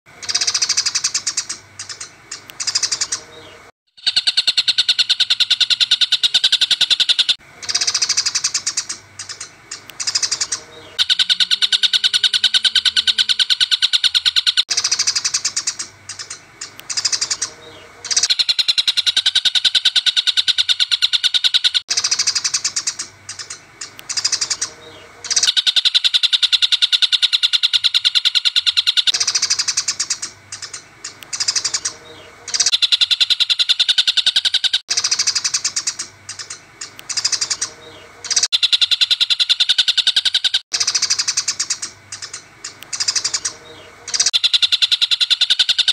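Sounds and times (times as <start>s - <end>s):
sparrows chattering: 0.2s - 25.6s, 27.8s - 45.9s
bird calls: 0.2s - 45.9s.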